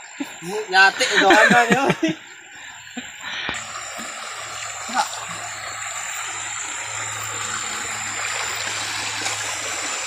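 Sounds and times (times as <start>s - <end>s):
stream trickling over rocks: 0.0s - 10.0s.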